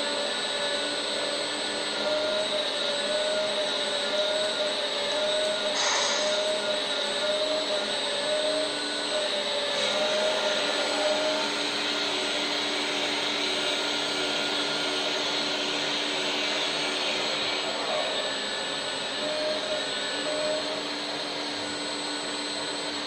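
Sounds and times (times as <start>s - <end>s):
hydraulic pump whining hiss: 1.2s - 23.0s.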